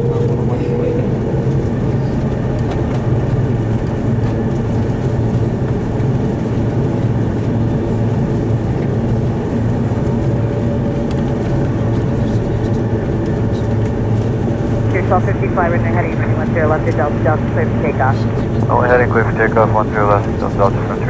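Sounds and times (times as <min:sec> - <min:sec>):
airplane cabin hum: 0:00.0 - 0:21.0
faint engine whine: 0:00.0 - 0:21.0.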